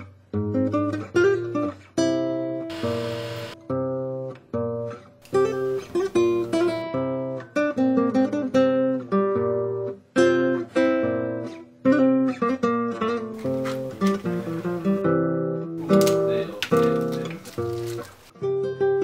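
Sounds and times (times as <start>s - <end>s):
acoustic guitar chords: 0.3s - 17.1s.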